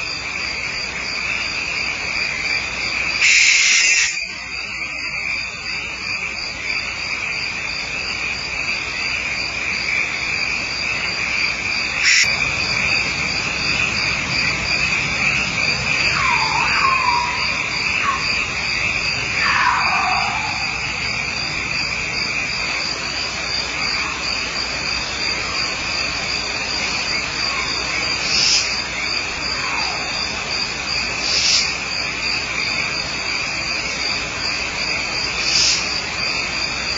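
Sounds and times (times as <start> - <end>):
night insects chirping: 0.0 - 36.9.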